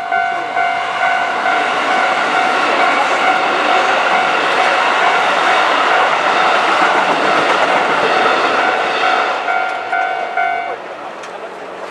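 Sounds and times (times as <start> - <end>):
electric train passing: 0.0 - 11.9.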